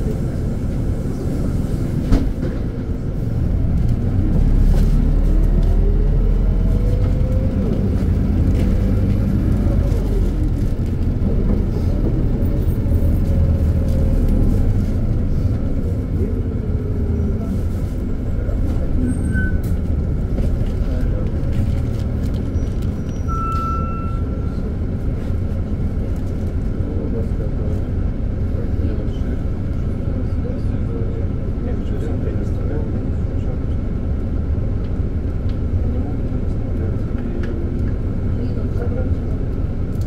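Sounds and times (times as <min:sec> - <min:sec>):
bus engine rumble: 0:00.0 - 0:40.0.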